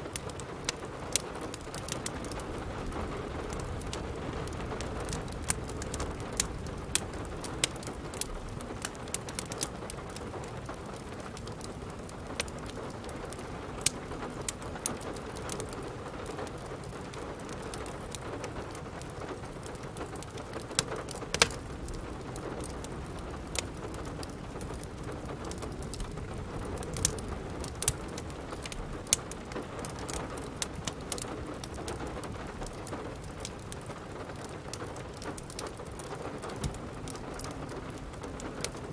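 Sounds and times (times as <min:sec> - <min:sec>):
steady rain hiss: 0:00.0 - 0:38.9
wood fire crackling: 0:00.0 - 0:38.9.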